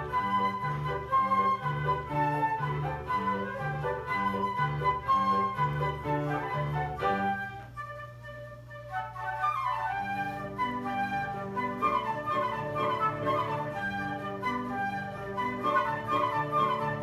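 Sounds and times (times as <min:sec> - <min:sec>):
piano: 0:00.0 - 0:17.0
recorder and flute playing: 0:00.0 - 0:17.0.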